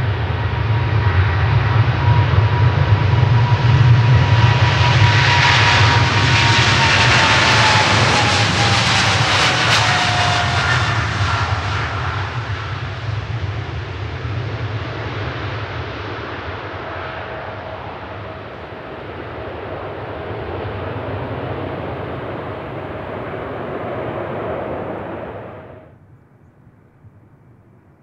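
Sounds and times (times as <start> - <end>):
jet engines roaring past: 0.0 - 28.0.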